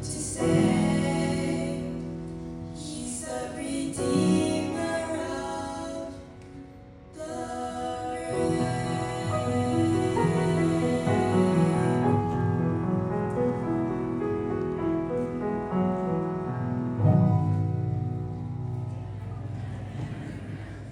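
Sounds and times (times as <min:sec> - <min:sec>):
slow piano chords: 0:00.0 - 0:20.9.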